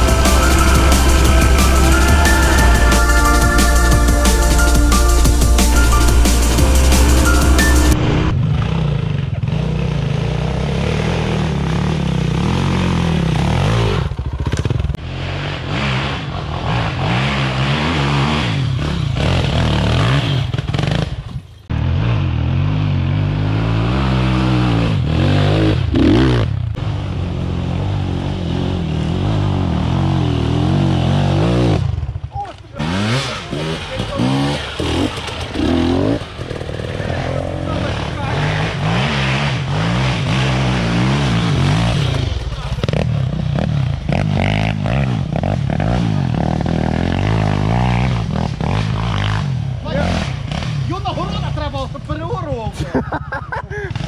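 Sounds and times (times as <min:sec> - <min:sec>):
dirt bike engine revving: 0:06.3 - 0:51.6.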